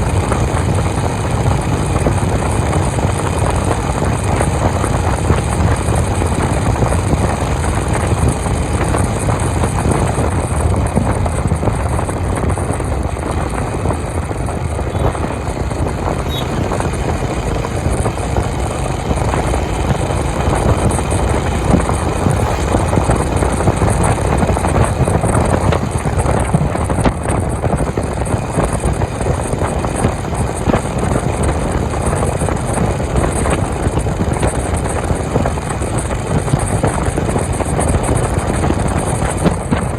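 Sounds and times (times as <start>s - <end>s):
loud wind noise: 0.0s - 39.9s
motorcycle engine cruising: 0.0s - 39.9s.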